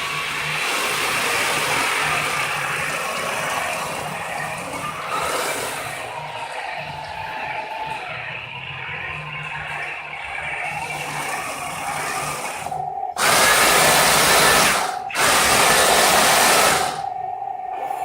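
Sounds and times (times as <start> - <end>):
electric motors whirring: 0.0 - 17.3.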